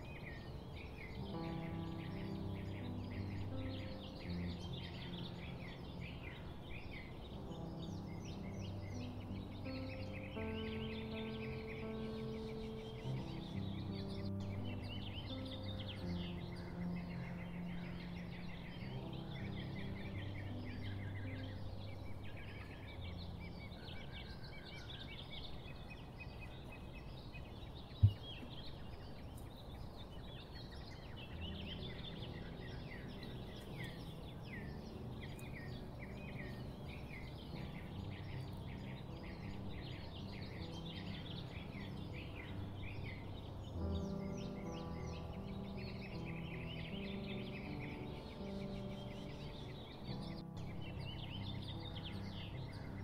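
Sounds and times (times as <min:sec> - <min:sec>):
small birds chirping: 0:00.0 - 0:53.0
soft background music: 0:00.0 - 0:53.0.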